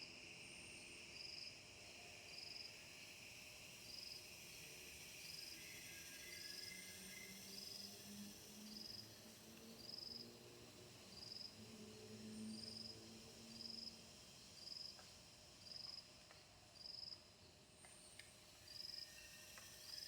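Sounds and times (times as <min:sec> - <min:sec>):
cricket chirping faintly: 0:00.0 - 0:20.0.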